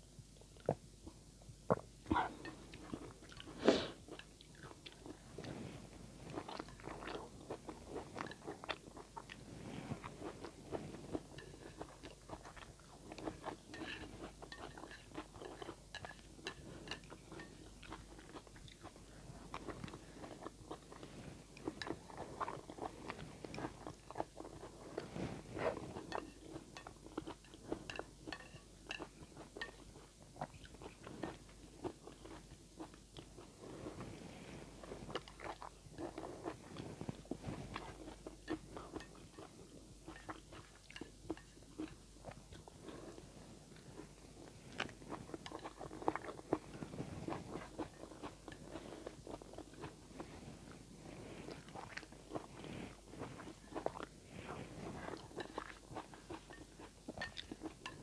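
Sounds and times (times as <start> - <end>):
person chewing with wet clicks: 0.4 - 5.6, 6.2 - 33.6, 35.0 - 50.4, 51.4 - 54.2, 55.0 - 58.0.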